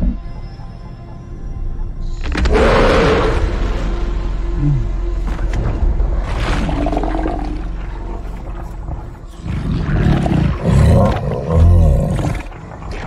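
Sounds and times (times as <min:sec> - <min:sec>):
low film score: 0:00.0 - 0:13.0.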